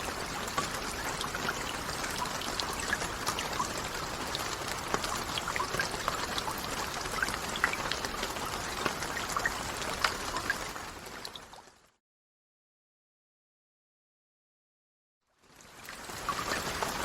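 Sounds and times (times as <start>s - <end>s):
rain drops pattering: 0.0s - 12.0s, 15.3s - 17.0s.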